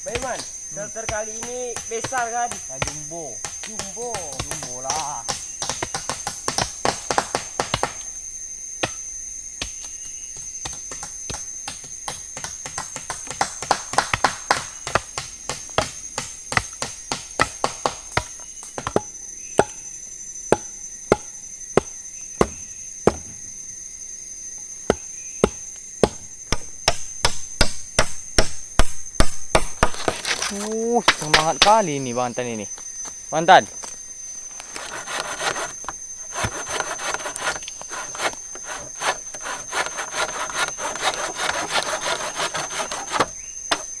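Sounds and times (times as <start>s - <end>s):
wood being chopped: 0.0s - 19.9s, 20.5s - 23.5s, 24.9s - 32.0s, 32.7s - 44.0s
high-pitched insect drone: 0.0s - 44.0s.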